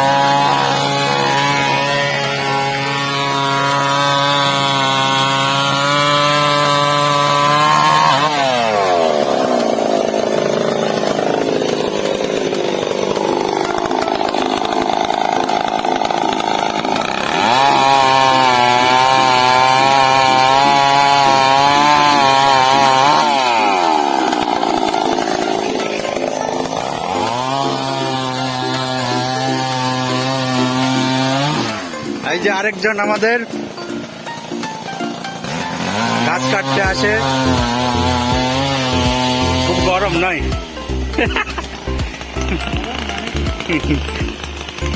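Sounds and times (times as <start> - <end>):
chainsaw revving: 0.0 - 44.9.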